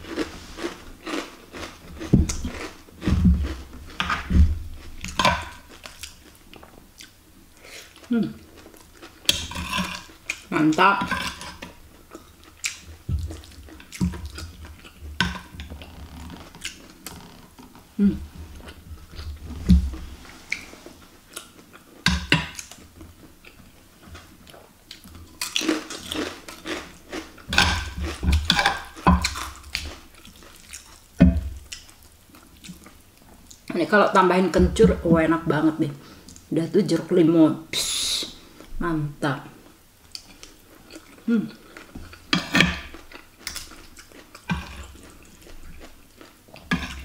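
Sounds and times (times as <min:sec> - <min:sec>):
quiet chewing: 0:00.0 - 0:33.8, 0:39.6 - 0:47.0.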